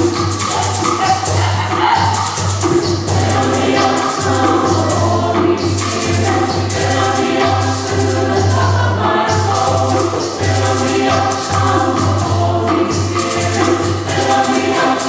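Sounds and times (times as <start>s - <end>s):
choir singing sustained chords: 1.2s - 15.0s.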